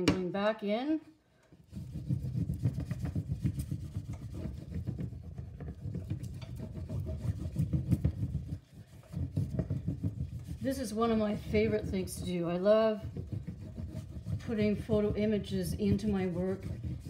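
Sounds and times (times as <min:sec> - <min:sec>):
spoon rubbing over paper: 0:01.6 - 0:17.0.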